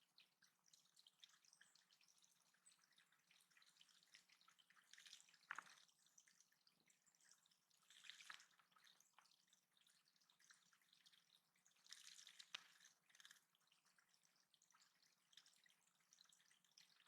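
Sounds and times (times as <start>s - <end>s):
small water splashes: 0.0s - 17.0s
water trickling and dripping: 0.0s - 17.0s.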